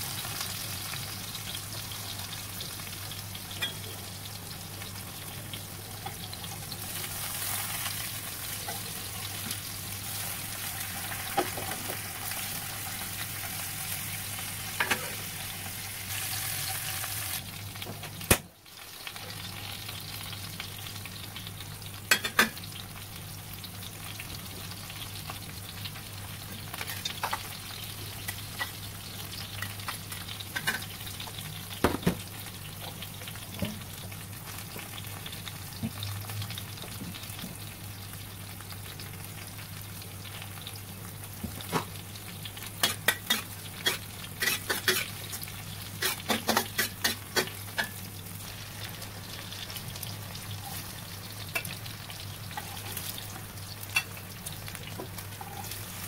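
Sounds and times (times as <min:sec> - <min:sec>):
tofu sizzling in oil: 0:00.0 - 0:56.0.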